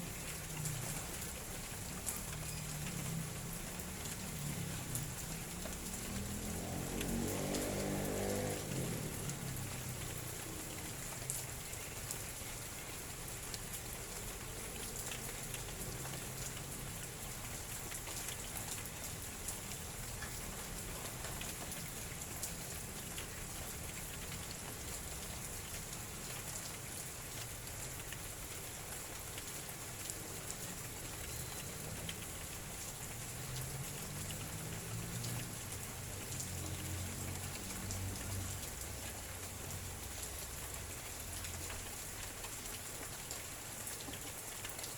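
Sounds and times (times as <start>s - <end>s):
light drizzle: 0.0s - 44.9s.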